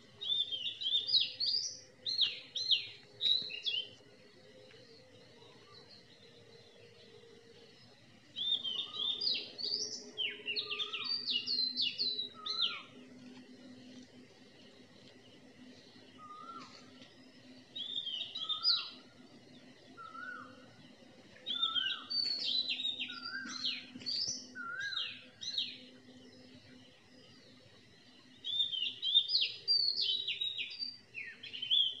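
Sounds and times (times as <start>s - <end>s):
birds chirping: 0.0s - 32.0s
faint low hum: 0.0s - 32.0s.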